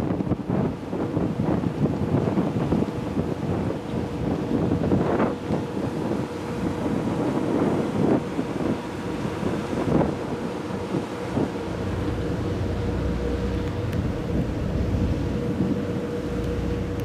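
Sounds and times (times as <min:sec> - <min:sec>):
wind buffeting microphone: 0:00.0 - 0:17.0
vessel humming: 0:02.9 - 0:17.0.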